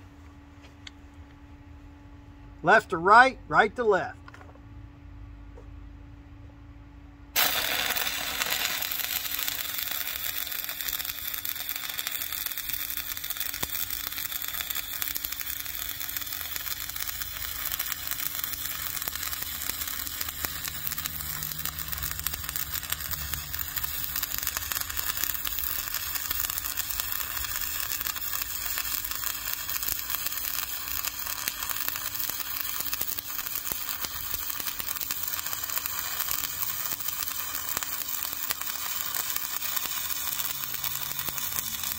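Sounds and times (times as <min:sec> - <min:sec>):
welding arc sizzling: 0:07.3 - 0:41.9.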